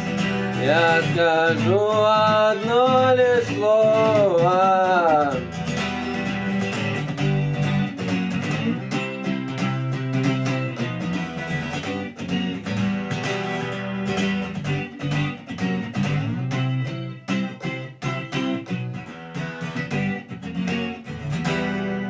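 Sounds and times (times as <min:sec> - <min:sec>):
strummed guitar chords: 0:00.0 - 0:22.0.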